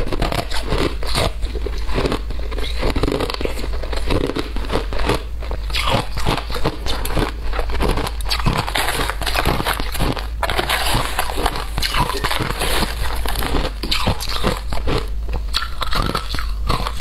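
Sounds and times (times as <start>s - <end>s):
ice crunched between teeth: 0.0s - 17.0s.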